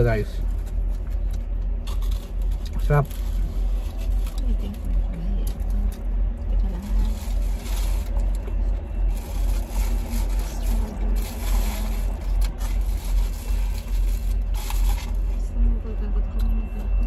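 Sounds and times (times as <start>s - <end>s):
low pulsing car rumble: 0.0s - 17.0s.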